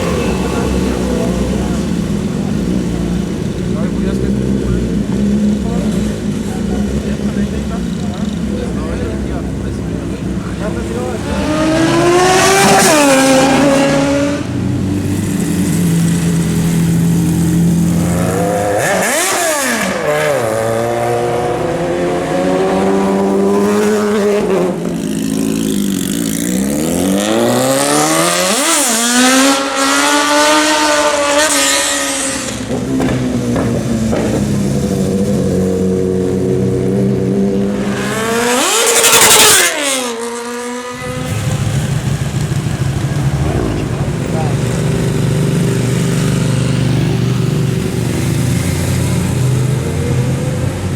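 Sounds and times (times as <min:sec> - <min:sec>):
motorcycles accelerating past: 0:10.1 - 0:50.9.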